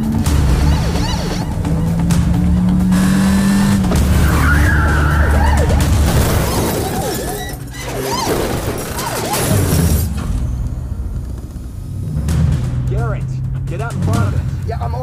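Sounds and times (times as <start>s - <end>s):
car engines: 0.0s - 7.7s, 9.3s - 15.0s
tyres skidding: 0.0s - 12.9s
action film music: 0.0s - 15.0s.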